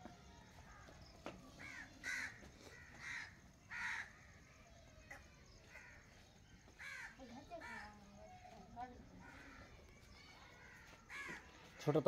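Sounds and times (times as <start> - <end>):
crow cawing: 1.6 - 8.4, 9.1 - 12.0.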